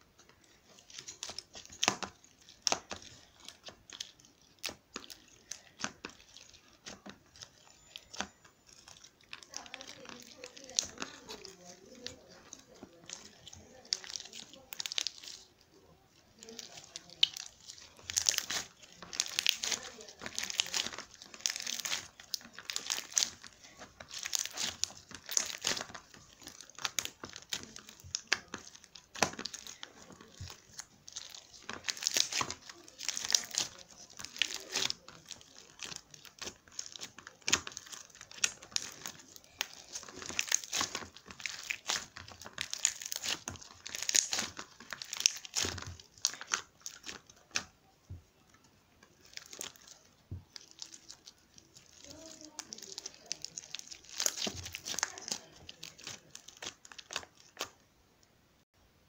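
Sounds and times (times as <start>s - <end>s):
crinkling and crackling: 0.0s - 58.7s.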